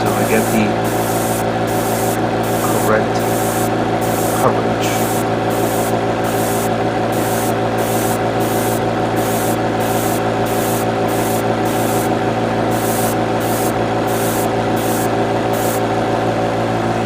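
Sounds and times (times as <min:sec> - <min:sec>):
airbrush air hiss: 0:00.0 - 0:12.1, 0:12.7 - 0:15.8
compressor motor hum: 0:00.0 - 0:17.0.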